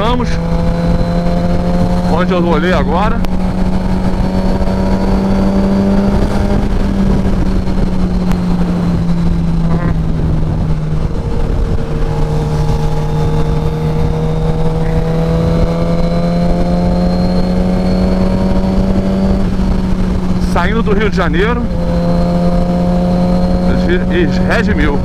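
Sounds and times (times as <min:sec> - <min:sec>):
faint engine note rising: 0:00.0 - 0:25.0
motorcycle engine cruising: 0:00.0 - 0:25.0
wind rushing over microphone: 0:00.0 - 0:25.0.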